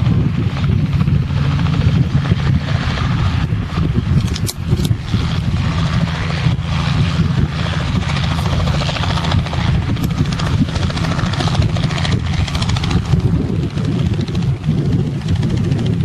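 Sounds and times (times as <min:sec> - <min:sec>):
helicopter engine rumble: 0:00.0 - 0:16.0
helicopter rotor beating: 0:00.0 - 0:16.0.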